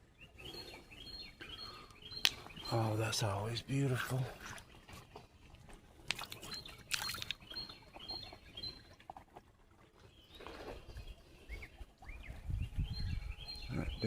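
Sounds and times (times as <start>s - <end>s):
small birds chirping: 0.0s - 5.4s, 6.0s - 9.0s, 10.0s - 14.0s.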